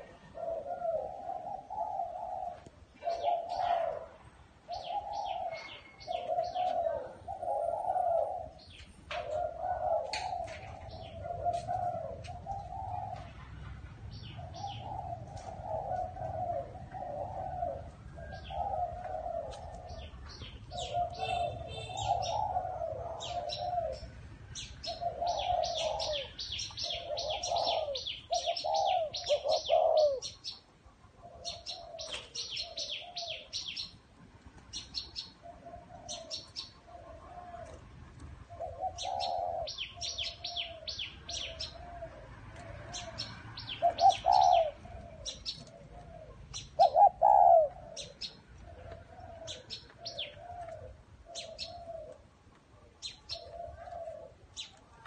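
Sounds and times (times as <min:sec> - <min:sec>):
doves cooing: 0:00.0 - 0:55.0
small birds chirping: 0:00.0 - 0:55.0.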